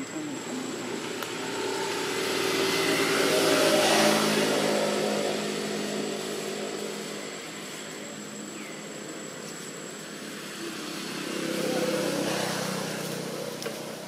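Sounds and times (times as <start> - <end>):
motor engine drone: 0.0 - 14.0.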